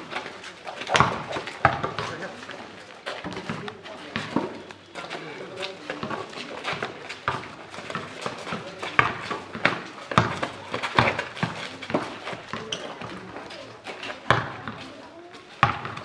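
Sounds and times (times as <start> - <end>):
basketball bouncing on pavement: 0.0 - 16.0.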